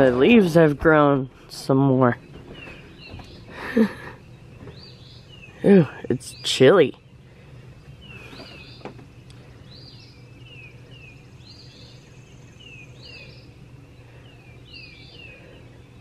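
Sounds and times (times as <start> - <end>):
faint low hum: 0.0 - 16.0
songbird singing: 0.0 - 16.0.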